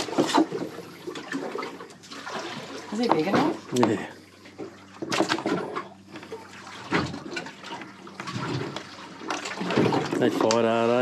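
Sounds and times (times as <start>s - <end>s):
fish slapping and splashing: 0.0s - 3.9s, 4.6s - 10.9s.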